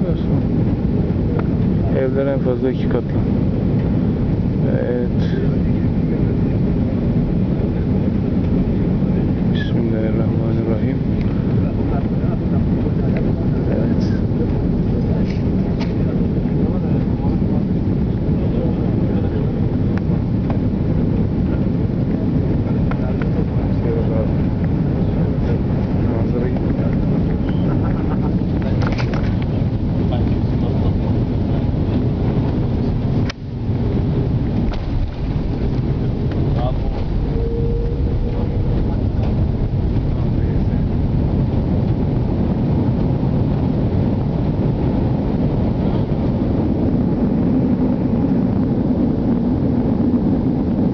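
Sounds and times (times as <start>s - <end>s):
jet cabin rumble: 0.0s - 50.9s.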